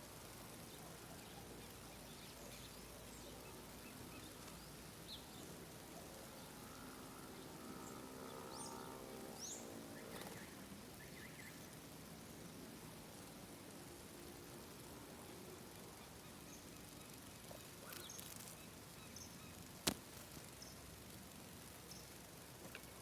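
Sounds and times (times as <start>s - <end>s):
faint birds chirping: 0.0s - 23.0s
faint low hum: 0.0s - 23.0s.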